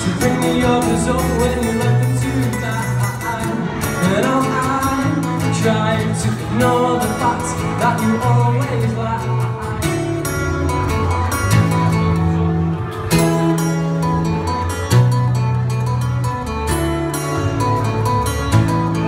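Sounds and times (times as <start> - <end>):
acoustic guitars strumming: 0.0 - 19.0.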